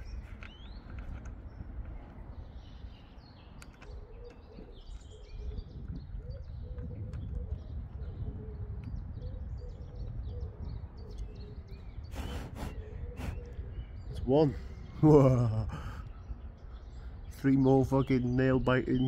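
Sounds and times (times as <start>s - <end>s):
birds chirping and cooing: 0.0s - 19.0s.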